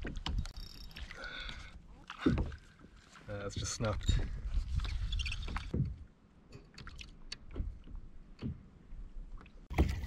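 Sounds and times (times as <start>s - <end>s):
faint water: 0.0s - 10.0s.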